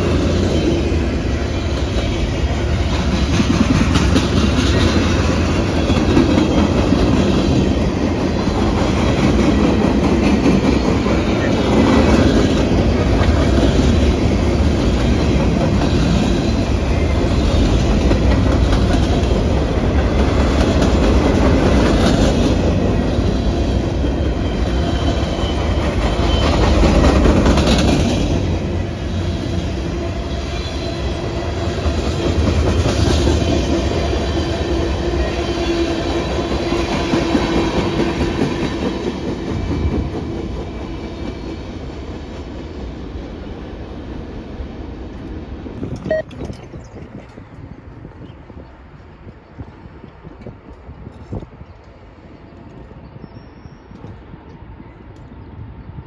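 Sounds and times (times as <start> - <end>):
train passing close by: 0.0 - 56.0.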